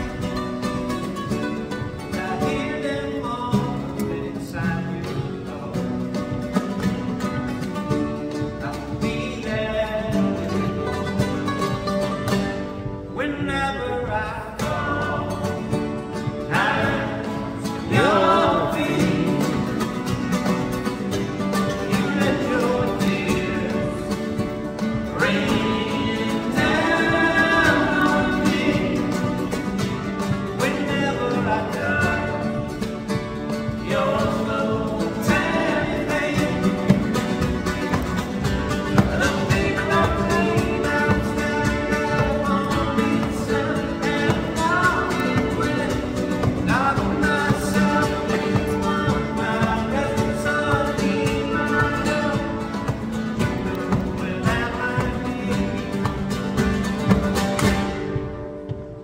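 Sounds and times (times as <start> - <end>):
nylon-string guitars playing: 0.0 - 59.0
man singing: 1.6 - 6.5, 8.2 - 11.6, 13.1 - 56.7.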